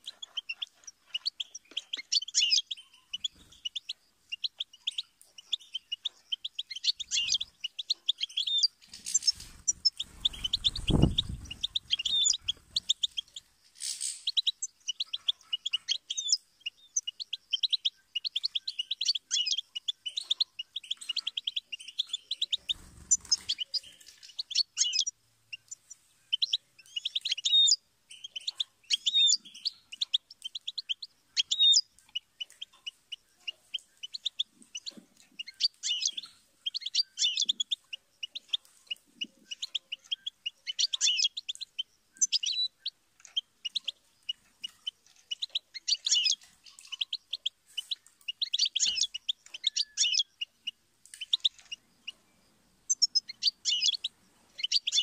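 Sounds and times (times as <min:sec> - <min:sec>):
goldfinch singing: 0:00.0 - 0:55.0.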